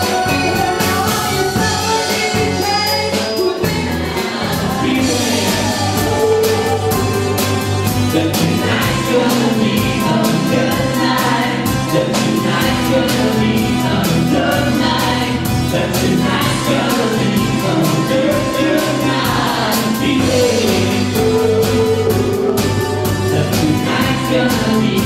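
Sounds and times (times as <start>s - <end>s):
drums: 0.0s - 25.0s
people singing together: 0.0s - 25.0s.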